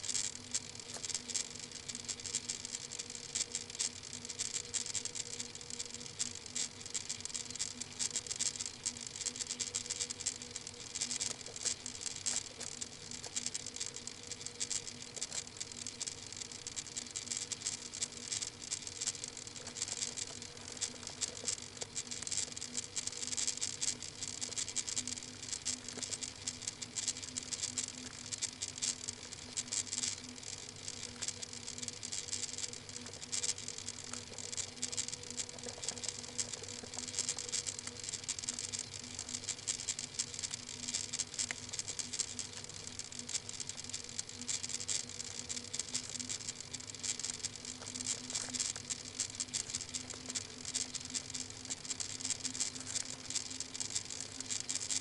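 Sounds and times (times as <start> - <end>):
fine crackling patter: 0.0 - 55.0
low steady hum: 0.0 - 55.0.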